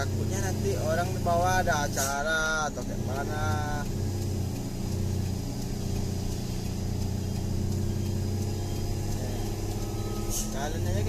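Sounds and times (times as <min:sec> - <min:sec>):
truck engine droning in low gear: 0:00.0 - 0:11.0.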